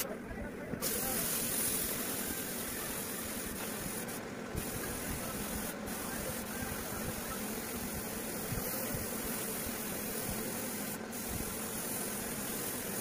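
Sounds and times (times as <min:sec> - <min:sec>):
spray gun hissing: 0:00.8 - 0:13.0.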